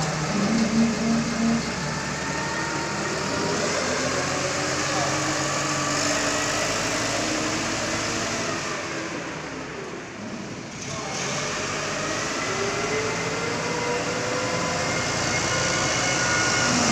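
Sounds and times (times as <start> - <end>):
forklift engine running: 0.0 - 16.9.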